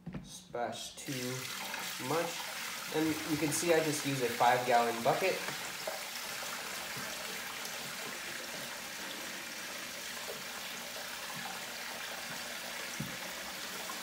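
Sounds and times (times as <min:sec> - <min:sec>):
water pouring from bucket: 0:01.0 - 0:14.0.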